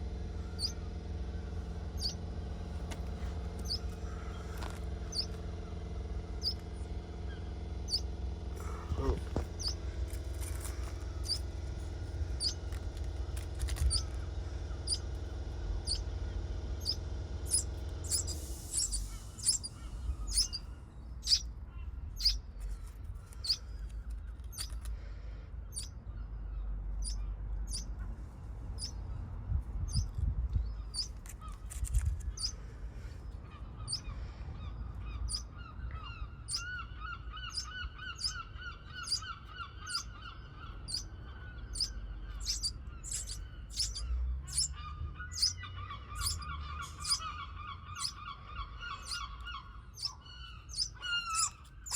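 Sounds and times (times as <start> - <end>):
engine hum: 0.0 - 51.9
small birds chirping: 0.0 - 51.9
rapid repeated bird calls: 0.3 - 15.1, 15.8 - 29.1, 29.8 - 51.9.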